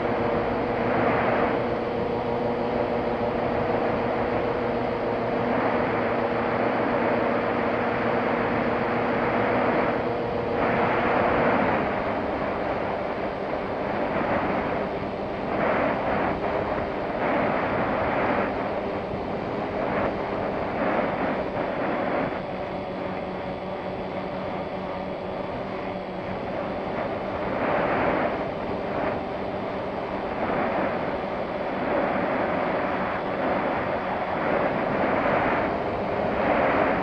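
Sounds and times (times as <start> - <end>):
propeller aircraft droning: 0.0 - 37.0
wind rushing over microphone: 0.0 - 37.0.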